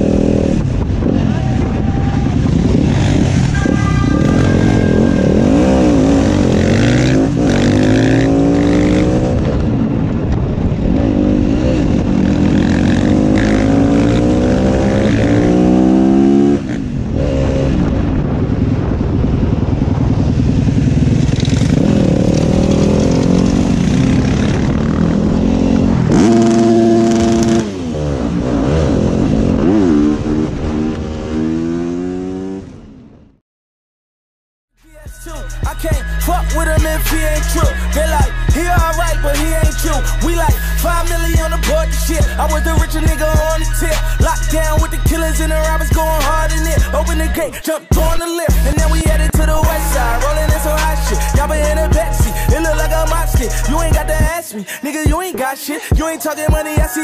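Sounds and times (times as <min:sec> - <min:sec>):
motorcycle engine revving: 0:00.0 - 0:01.6, 0:02.3 - 0:18.5, 0:19.4 - 0:33.0, 0:35.7 - 0:54.3.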